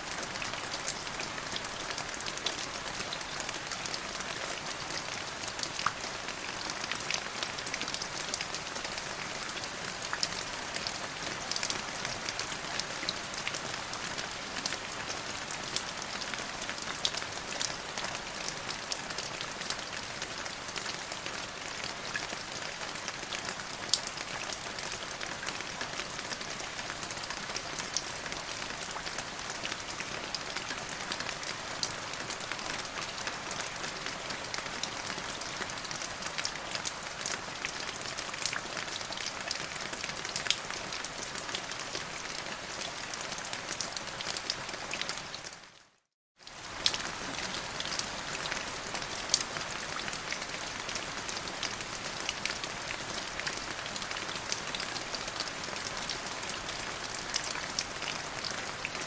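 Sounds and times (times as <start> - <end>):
steady rain on a surface: 0.0 - 59.0.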